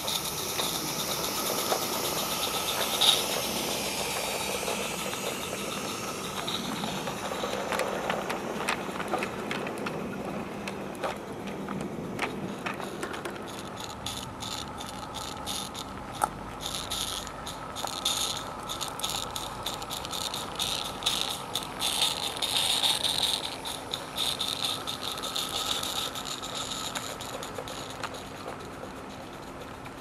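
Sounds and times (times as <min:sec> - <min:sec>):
steam hissing: 0:00.0 - 0:30.0
wheels clicking and rattling on track: 0:00.0 - 0:30.0.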